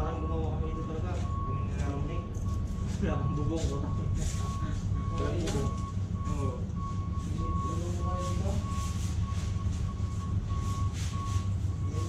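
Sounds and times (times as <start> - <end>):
high electronic beep: 0.0 - 12.0
steady low rumble: 0.0 - 12.0.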